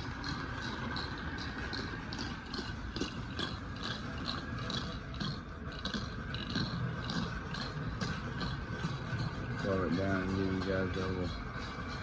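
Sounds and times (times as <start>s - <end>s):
toy boxcar rattling chug: 0.0s - 12.0s
track rumble: 0.0s - 12.0s.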